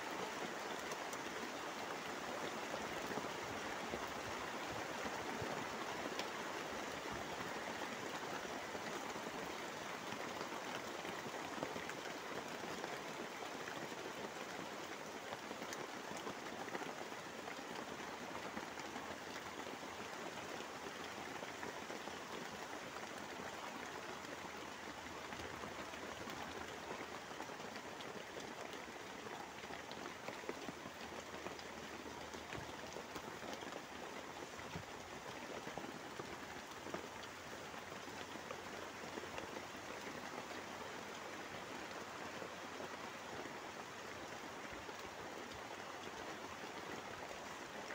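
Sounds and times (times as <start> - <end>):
heavy rain on tarpaulin: 0.0 - 47.9.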